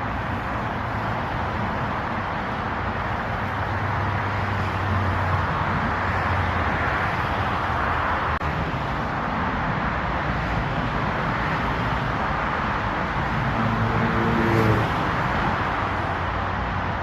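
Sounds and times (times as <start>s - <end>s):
low traffic hum: 0.0s - 17.0s
passing vehicles: 0.0s - 17.0s.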